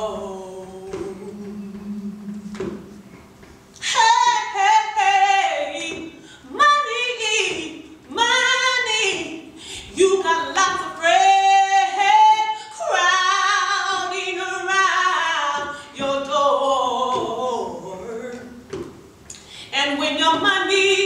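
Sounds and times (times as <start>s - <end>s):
woman singing unaccompanied: 0.0s - 3.0s, 3.8s - 18.8s, 19.7s - 21.0s.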